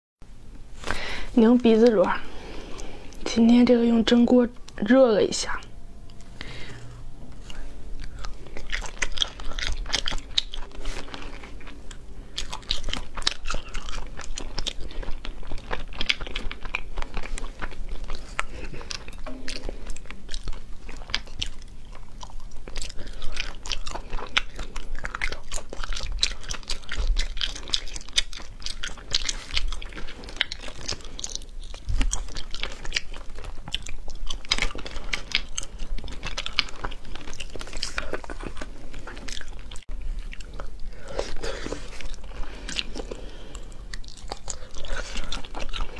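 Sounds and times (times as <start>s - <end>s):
wet chewing and biting: 6.1s - 45.9s.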